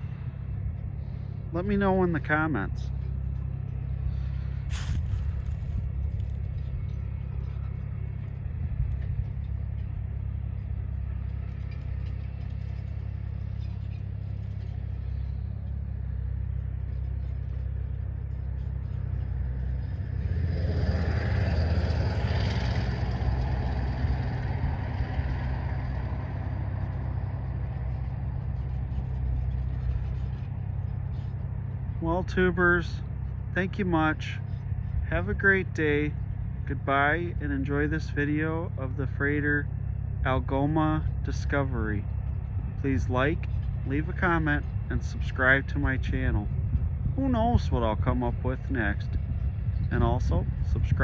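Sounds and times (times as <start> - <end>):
low outdoor rumble: 0.0 - 51.0.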